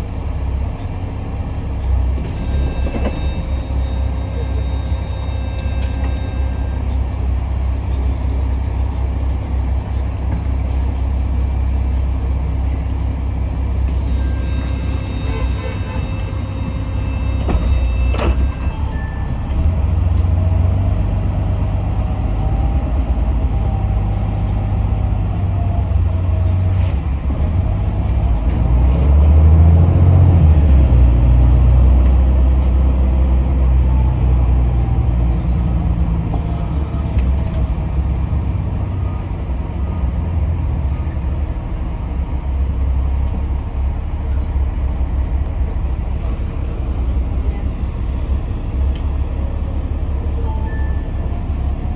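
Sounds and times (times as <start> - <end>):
bus diesel engine running: 0.0 - 51.9.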